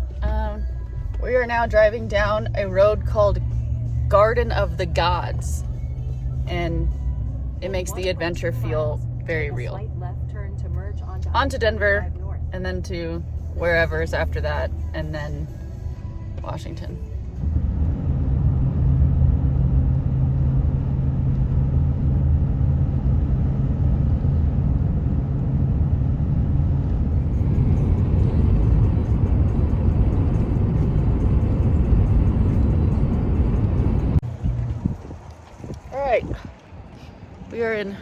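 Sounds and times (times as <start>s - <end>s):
low hum: 0.0s - 37.6s
truck engine and road drone: 0.0s - 38.0s.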